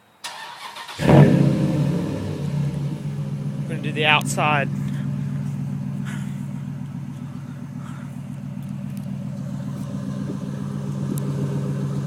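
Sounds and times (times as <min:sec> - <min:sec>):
pickup engine idling: 0:00.8 - 0:12.0.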